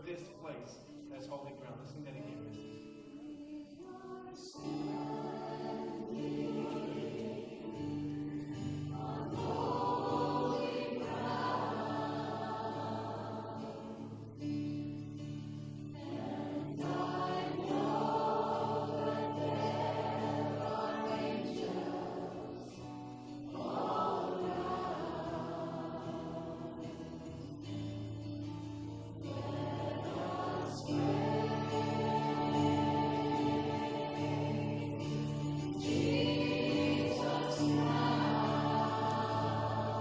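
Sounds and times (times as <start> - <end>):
congregation and band singing: 2.3 - 40.0.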